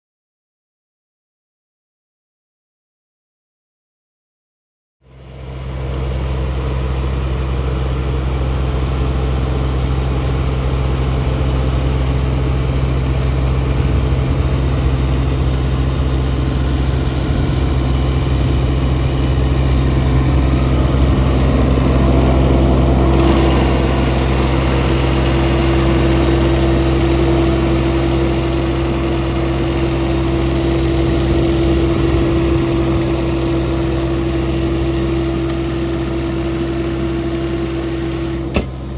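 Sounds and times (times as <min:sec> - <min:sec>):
diesel engine idling: 0:05.2 - 0:38.9.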